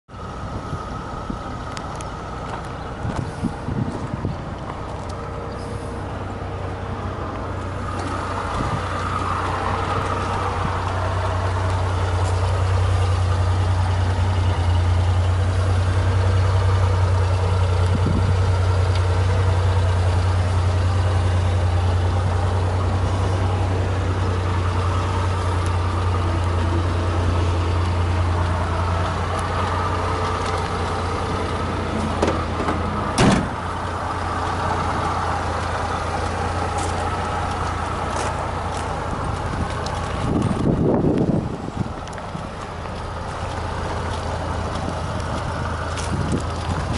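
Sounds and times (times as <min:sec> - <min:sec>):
truck engine idling: 0:00.1 - 0:46.9.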